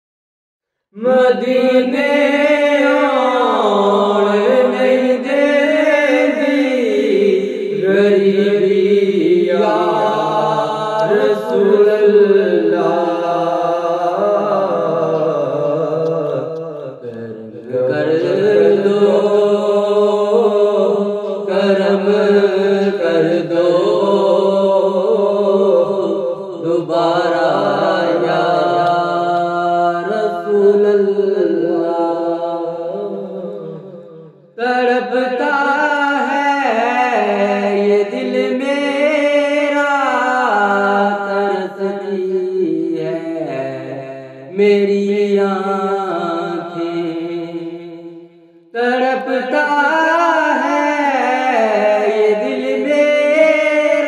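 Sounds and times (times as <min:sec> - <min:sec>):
man singing unaccompanied: 0:00.9 - 0:54.0.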